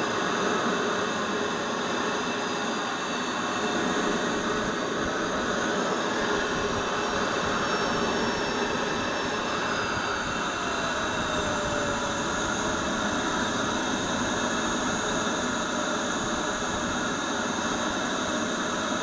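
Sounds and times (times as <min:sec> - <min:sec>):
model jet turbine whine: 0:00.0 - 0:19.0.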